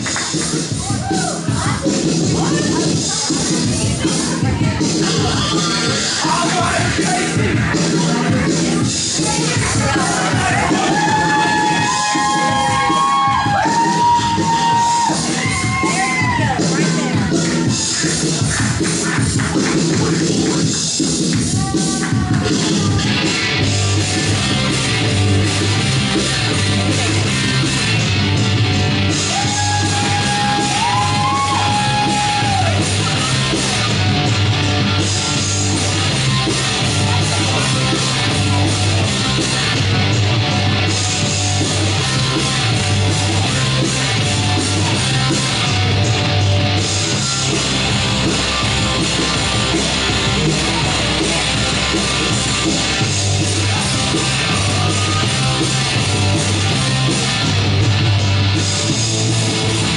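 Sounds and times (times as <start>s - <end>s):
repeating bass line: 0.0s - 59.9s
rock music with guitar: 0.0s - 59.9s.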